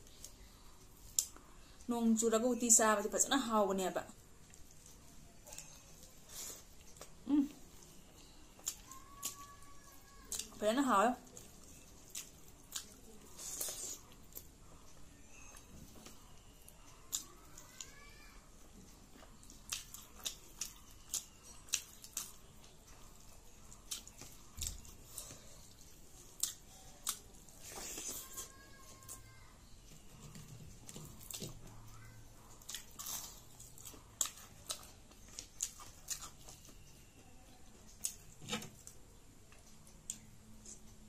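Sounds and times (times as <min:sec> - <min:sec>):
person chewing crisp food: 0:04.2 - 0:10.6, 0:11.2 - 0:18.0, 0:18.6 - 0:29.3, 0:29.9 - 0:41.0.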